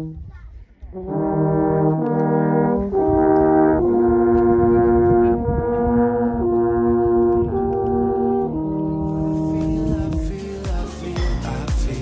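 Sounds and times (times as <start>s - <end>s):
alphorns playing: 1.0s - 12.0s.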